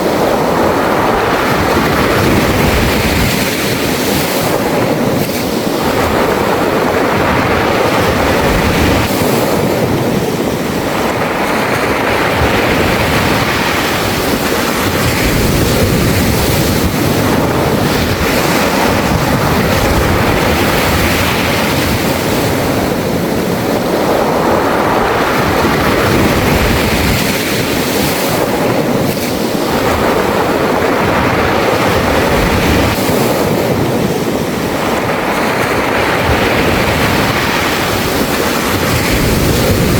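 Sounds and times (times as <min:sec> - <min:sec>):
waves breaking on pebble beach: 0:00.0 - 0:39.9.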